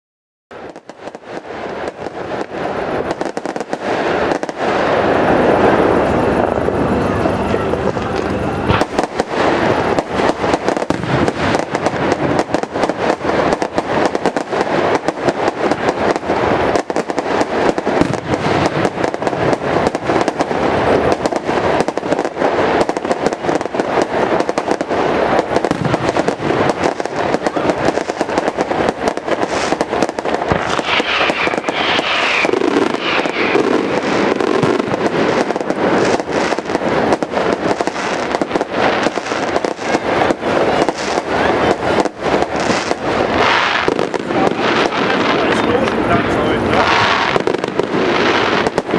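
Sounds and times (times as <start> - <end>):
fireworks crackling: 0.5 - 48.9.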